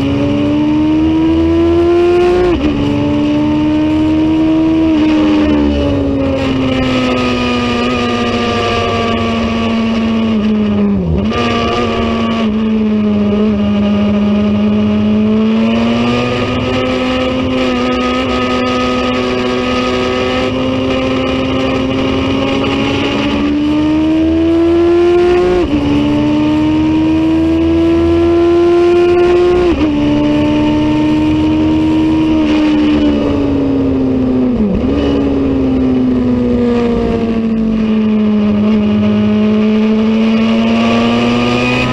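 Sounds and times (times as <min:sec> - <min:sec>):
racing motorcycle engine revving: 0:00.0 - 0:41.9.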